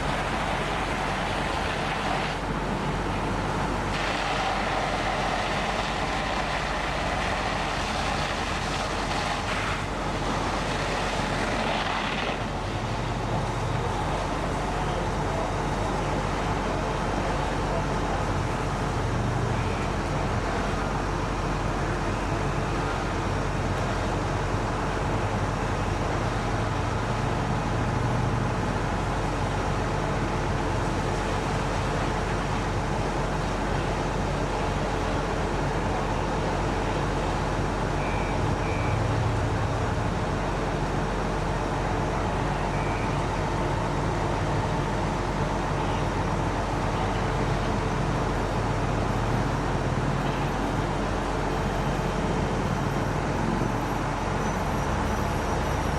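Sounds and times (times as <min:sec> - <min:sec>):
truck engine droning: 0:00.0 - 0:55.9.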